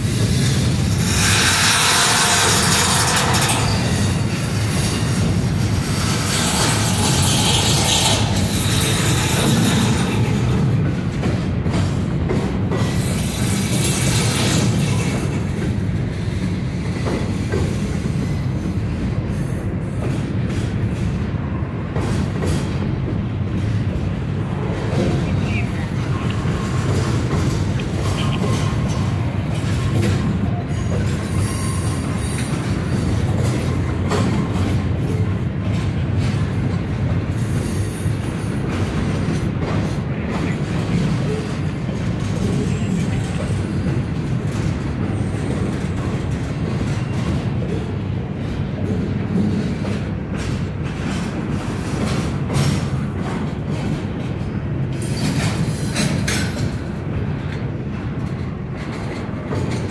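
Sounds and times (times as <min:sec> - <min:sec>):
wheels clicking over rail joints: 0:00.0 - 0:21.2, 0:21.9 - 0:59.9
freight train rumbling: 0:00.0 - 0:59.9.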